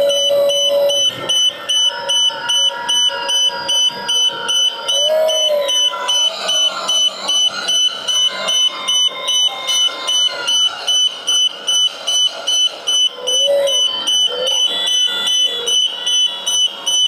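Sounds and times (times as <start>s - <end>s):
excavator warning beeper: 0.0s - 17.0s
faint wavering sounds: 0.0s - 17.0s.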